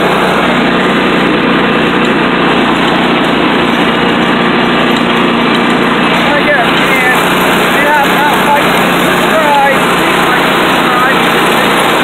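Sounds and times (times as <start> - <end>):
riding lawn mower engine running: 0.0 - 12.0.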